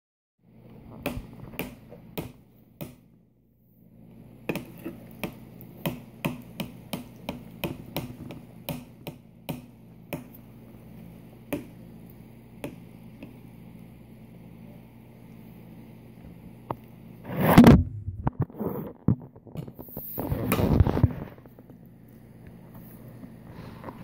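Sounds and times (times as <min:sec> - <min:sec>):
steady low hum: 0:00.4 - 0:24.0.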